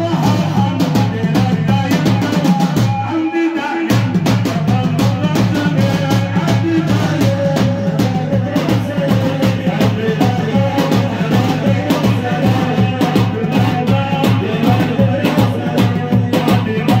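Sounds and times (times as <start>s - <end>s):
vocal music with fast drum beat: 0.0s - 17.0s.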